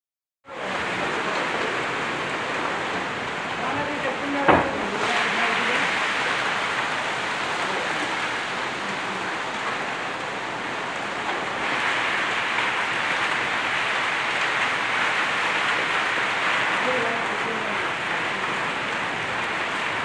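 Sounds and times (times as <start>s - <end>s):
heavy rain on tin roofs: 0.4s - 20.0s.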